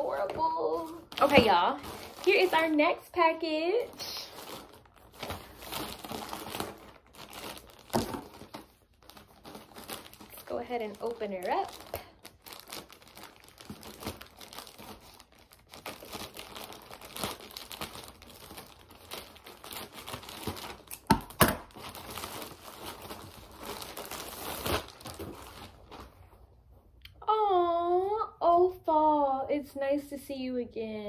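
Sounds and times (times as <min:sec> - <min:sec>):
sharp plastic crackles: 0:00.0 - 0:03.0, 0:03.9 - 0:26.1
plastic mailer crinkling: 0:00.0 - 0:26.2.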